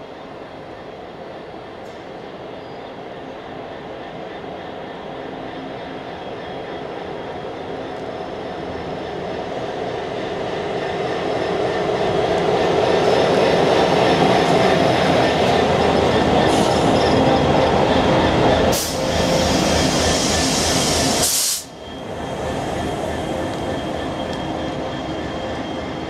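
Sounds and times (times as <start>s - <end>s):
train wheels running on rails: 0.0s - 26.0s
diesel locomotive engine passing: 0.1s - 26.0s.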